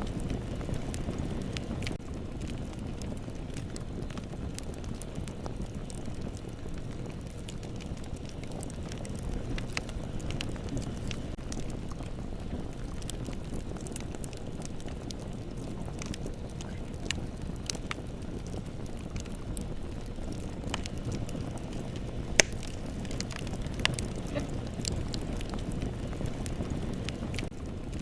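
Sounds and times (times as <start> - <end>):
bonfire flames rushing: 0.0 - 28.0
fire crackles and pops: 0.0 - 28.0.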